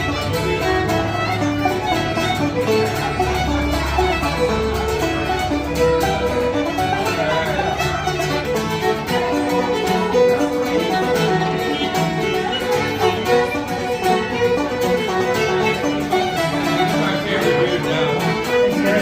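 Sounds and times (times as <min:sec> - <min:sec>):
fiddle playing a brisk tune: 0:00.0 - 0:19.0
plucked string accompaniment: 0:00.0 - 0:19.0.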